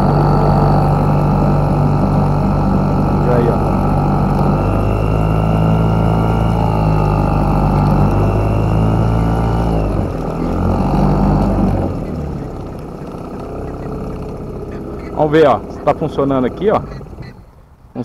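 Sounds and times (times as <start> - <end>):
outboard motor running: 0.0 - 17.8.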